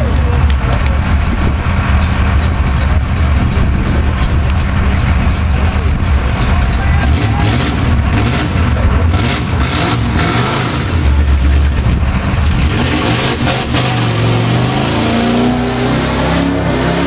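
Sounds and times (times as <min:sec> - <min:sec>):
truck churning through mud: 0:00.0 - 0:17.0
truck engine revving: 0:00.0 - 0:17.0.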